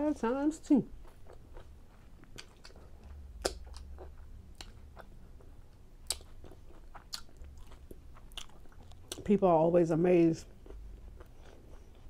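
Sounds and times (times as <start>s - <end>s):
mouth chewing food: 0.9s - 9.4s, 10.4s - 12.0s.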